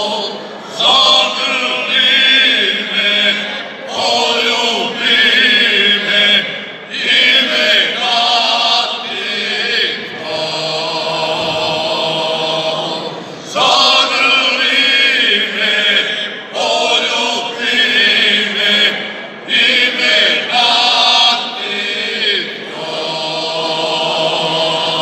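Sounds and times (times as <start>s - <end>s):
men singing in harmony: 0.0s - 25.0s.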